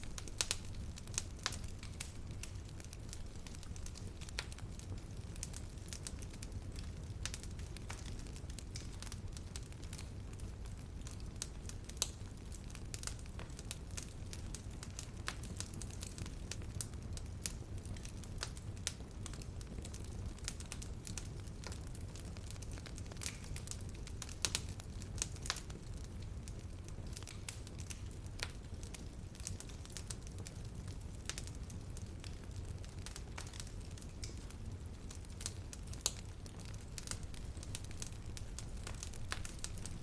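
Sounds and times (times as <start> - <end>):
fire crackling: 0.0 - 40.0.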